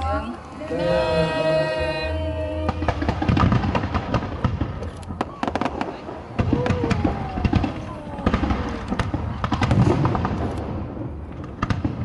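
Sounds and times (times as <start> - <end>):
fireworks bangs and crackling: 2.1 - 12.0.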